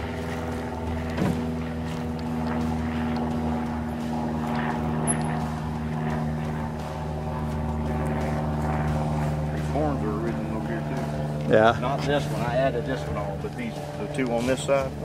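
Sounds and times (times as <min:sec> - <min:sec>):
engine droning steadily: 0:00.0 - 0:15.0.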